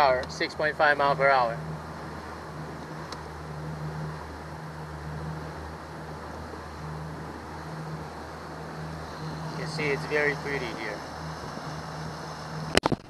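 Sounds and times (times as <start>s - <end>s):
outboard motor humming: 0.0s - 13.0s
rushing water: 0.0s - 13.0s
wind: 0.0s - 13.0s.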